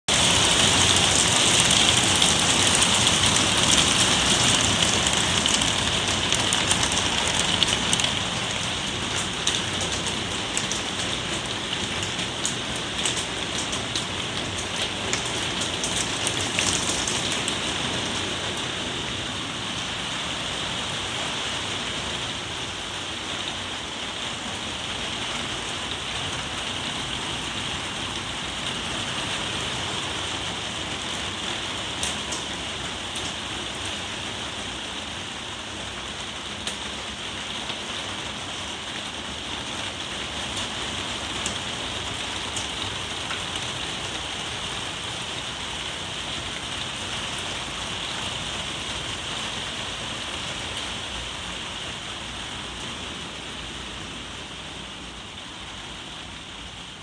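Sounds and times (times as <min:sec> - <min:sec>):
heavy rain on a plastic roof: 0:00.0 - 0:57.0.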